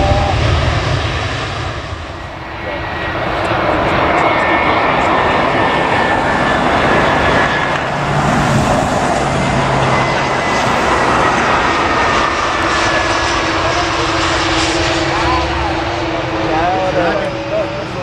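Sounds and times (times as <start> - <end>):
airliner engines roaring: 0.0 - 18.0
high engine whine: 0.0 - 18.0.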